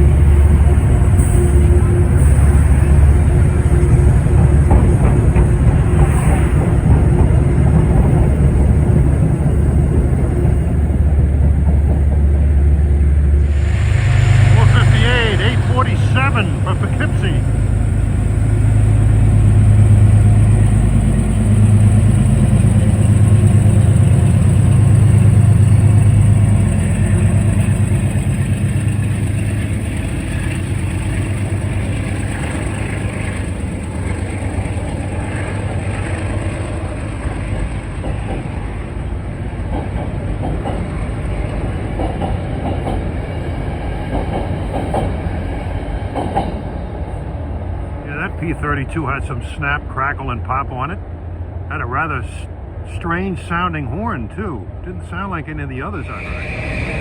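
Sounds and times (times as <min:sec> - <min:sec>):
train wheels clacking over rail joints: 0:00.0 - 0:14.9, 0:15.6 - 0:46.8
diesel locomotive engine drone: 0:00.0 - 0:57.0.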